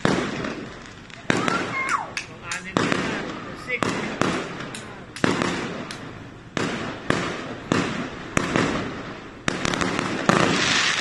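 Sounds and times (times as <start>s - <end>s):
firework crackles: 0.0s - 11.0s
fireworks bursting with echo: 0.0s - 11.0s.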